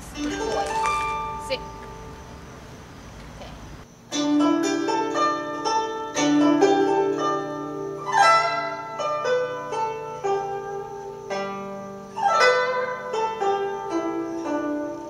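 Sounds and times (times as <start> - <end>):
plucked string instrument music: 0.0 - 2.4, 4.1 - 15.0.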